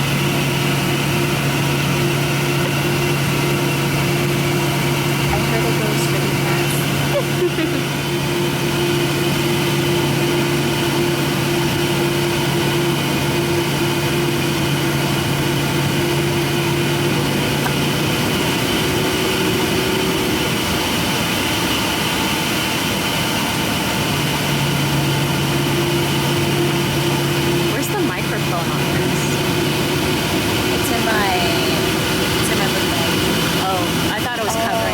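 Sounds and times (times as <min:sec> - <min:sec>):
airliner cabin machine hum: 0:00.0 - 0:34.9.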